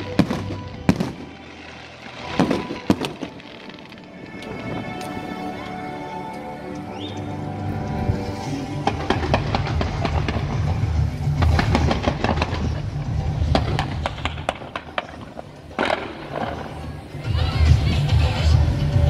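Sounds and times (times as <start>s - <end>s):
fireworks bangs and crackles: 0.0s - 6.5s, 8.0s - 19.0s.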